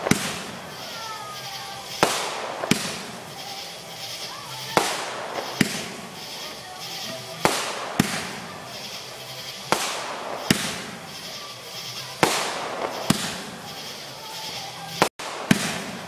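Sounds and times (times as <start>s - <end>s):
fireworks bangs: 0.0s - 16.0s
fireworks fizzing crackle: 0.0s - 16.0s.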